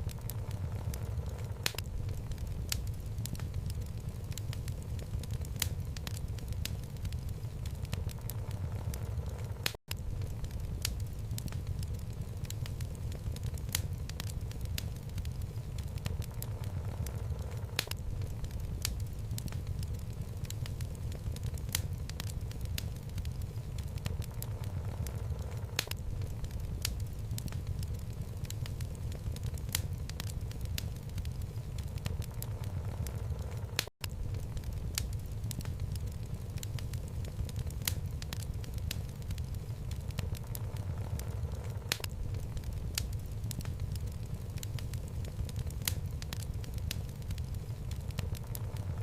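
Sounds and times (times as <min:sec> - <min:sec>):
low rumble of flames: 0:00.0 - 0:49.0
wood fire crackling: 0:00.0 - 0:49.0.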